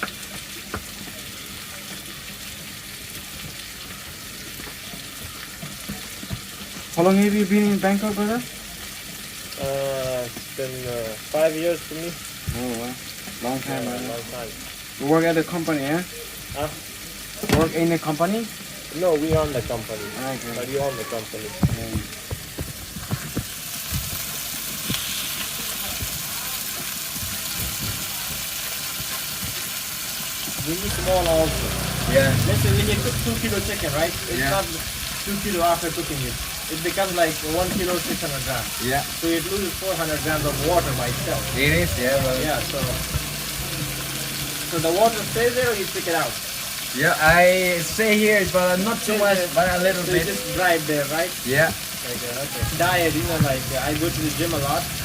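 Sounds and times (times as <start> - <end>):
food sizzling on a pan: 0.0 - 55.0.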